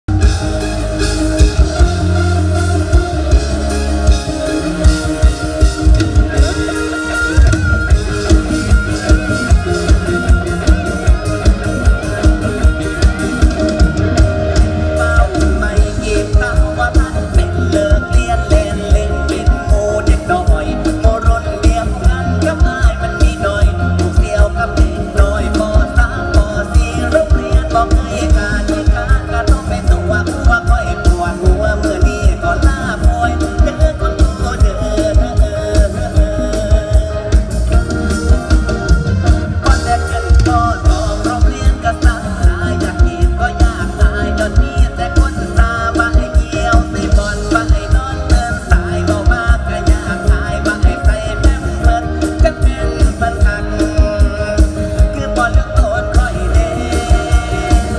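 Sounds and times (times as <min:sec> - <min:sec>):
guitar: 0:00.0 - 0:57.9
live band playing: 0:00.0 - 0:57.9
low bass notes: 0:00.0 - 0:57.9
drum kit beat: 0:00.1 - 0:57.9.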